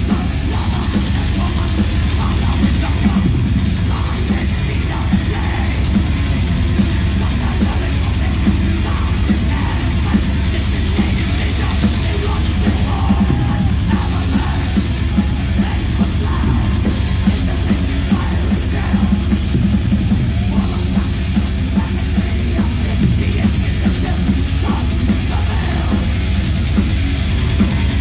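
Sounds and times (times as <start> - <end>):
metal band playing: 0.0 - 28.0.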